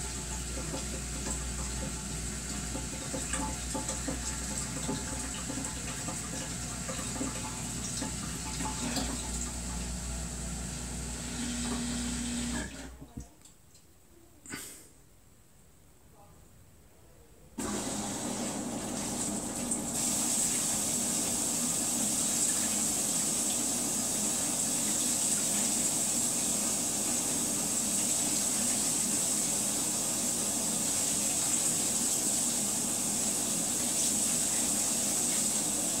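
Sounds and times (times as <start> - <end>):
washer filling with water: 0.0 - 13.2, 17.6 - 36.0.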